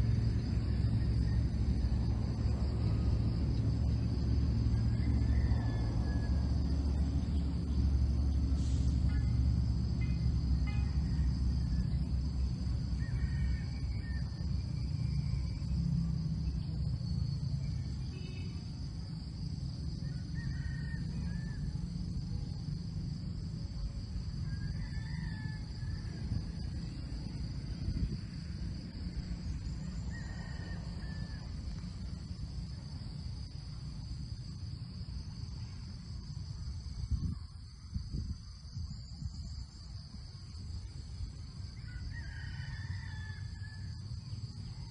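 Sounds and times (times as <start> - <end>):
insect chorus drone: 0.0 - 44.9.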